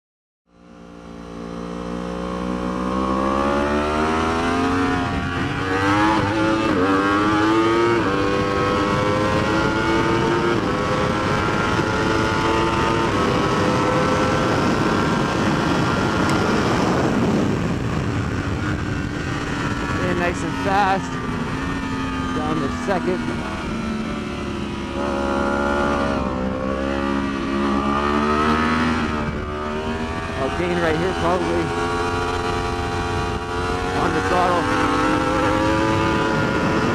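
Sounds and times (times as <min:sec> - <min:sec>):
motorcycle accelerating with upshifts: 0:00.5 - 0:36.9
wind rush: 0:04.1 - 0:36.9.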